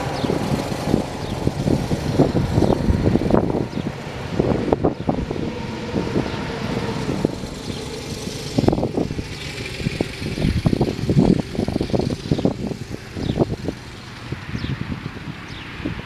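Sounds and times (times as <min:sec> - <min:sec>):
lawn tractor engine running: 0:00.0 - 0:15.8
wind buffeting microphone: 0:00.0 - 0:16.0.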